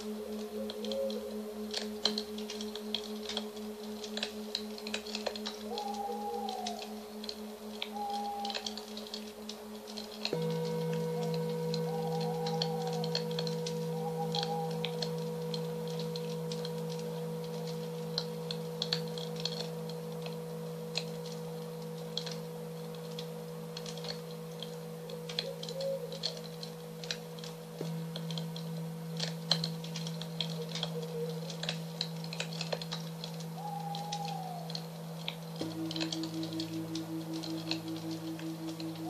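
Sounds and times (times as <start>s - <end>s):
singing bowl ringing: 0.0s - 39.0s
wood fire crackling: 0.0s - 39.0s.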